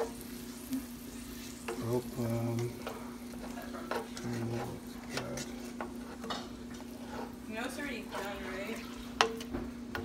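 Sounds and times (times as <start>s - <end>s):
spoon scraping a pan: 0.0s - 0.4s, 1.2s - 10.0s
sauce sizzling in a pan: 0.0s - 10.0s.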